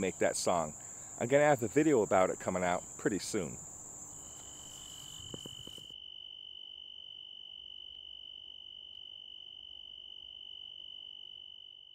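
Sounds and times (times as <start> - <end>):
tree cricket singing: 0.0 - 11.9.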